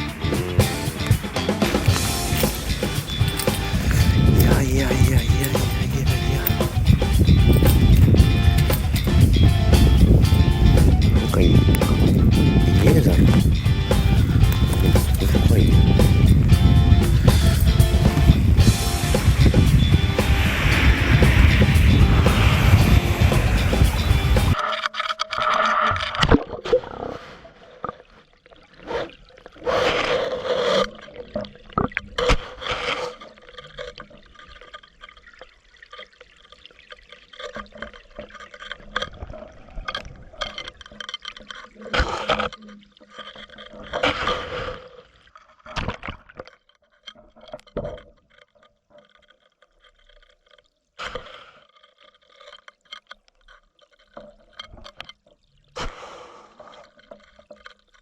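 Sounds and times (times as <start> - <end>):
water sloshing and gurgling: 0.0 - 58.0.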